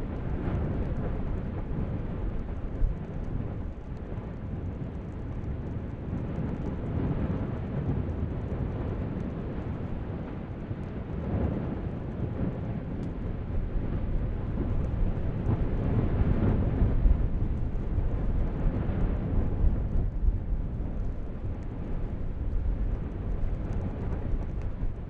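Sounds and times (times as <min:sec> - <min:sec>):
volcano rumbling roar: 0:00.0 - 0:25.0.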